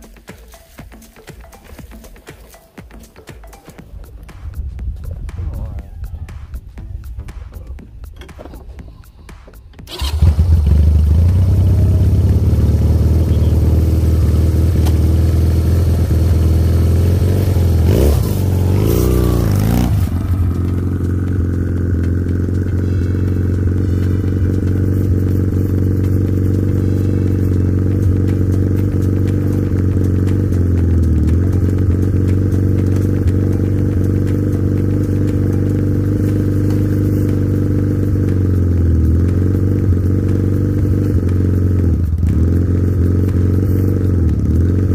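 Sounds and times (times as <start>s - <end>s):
atv engine revving: 8.0s - 44.9s.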